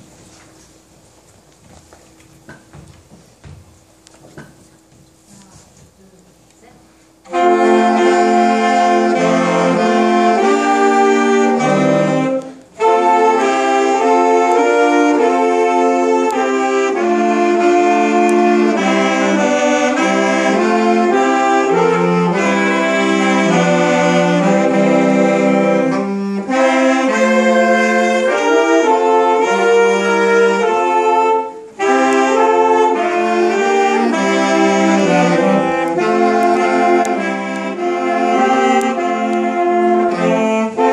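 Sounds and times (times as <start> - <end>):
saxophone ensemble playing carols: 3.8 - 40.9.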